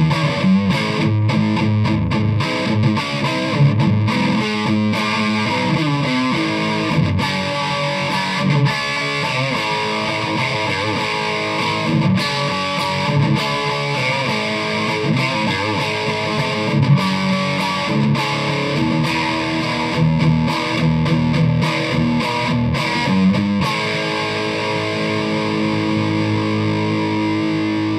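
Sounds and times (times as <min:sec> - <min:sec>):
distorted electric guitar riffs: 0:00.0 - 0:27.9.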